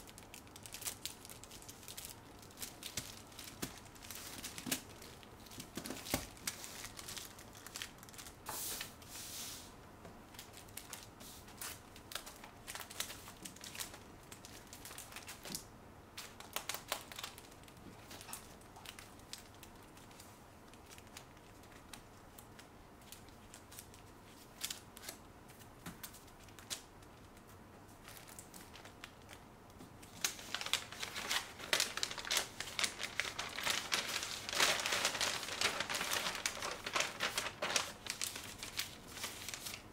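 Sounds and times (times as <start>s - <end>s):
plastic and paper crinkling: 0.0s - 9.0s, 10.3s - 39.9s.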